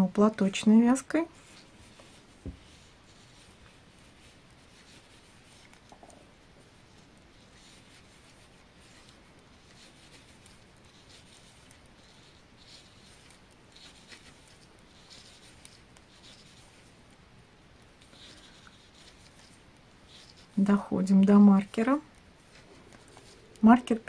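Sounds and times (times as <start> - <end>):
knitting needles scraping and clicking: 0.4 - 24.0.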